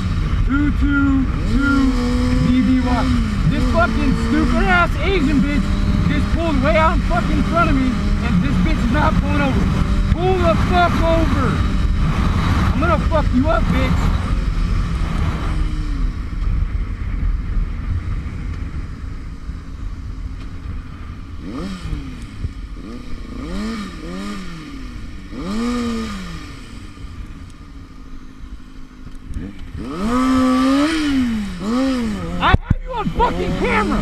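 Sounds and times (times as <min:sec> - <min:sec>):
low wind rumble: 0:00.0 - 0:34.0
motorcycle engine revving: 0:00.0 - 0:34.0.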